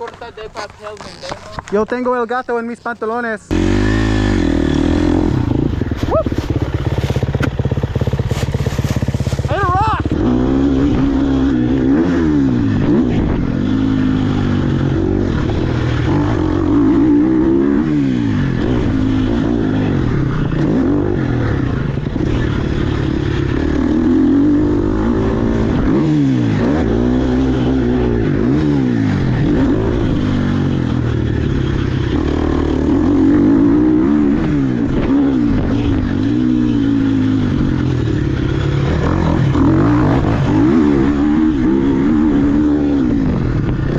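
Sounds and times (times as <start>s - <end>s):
dirt bike engine revving: 3.5s - 43.9s.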